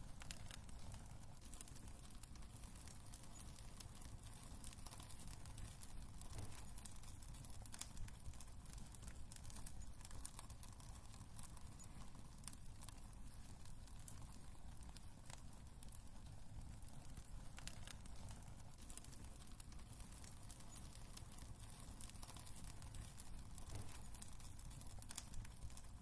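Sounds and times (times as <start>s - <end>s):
wood fire crackling in fireplace: 0.0s - 26.0s.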